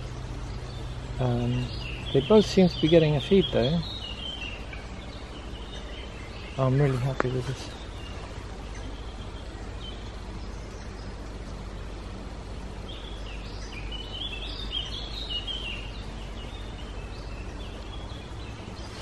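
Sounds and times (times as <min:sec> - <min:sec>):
low background rumble: 0:00.0 - 0:19.0
woodpecker nestlings begging calls: 0:00.0 - 0:19.0.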